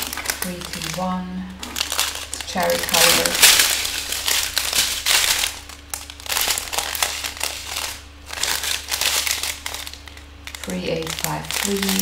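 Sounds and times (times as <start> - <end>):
plastic bags crinkling: 0.0 - 12.0
tiny beads rattling inside bags: 0.0 - 12.0.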